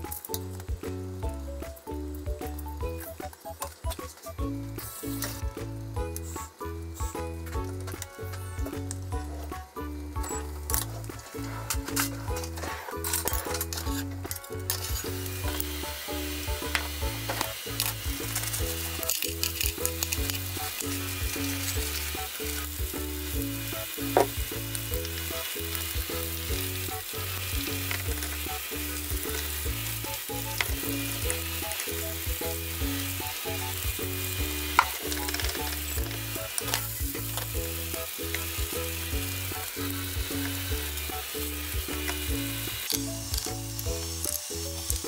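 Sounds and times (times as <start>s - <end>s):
green beans sizzling: 0.0s - 45.0s
soft background music: 0.0s - 45.0s.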